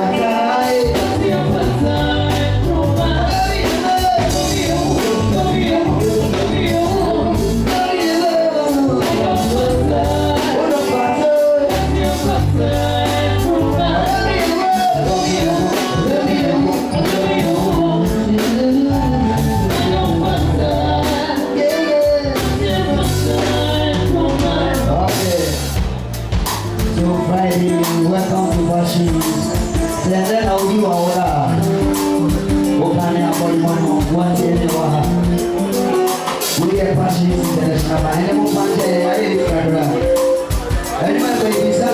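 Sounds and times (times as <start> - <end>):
person singing: 0.0 - 25.8, 26.8 - 41.9
band music: 0.0 - 41.9
bass: 0.0 - 41.9.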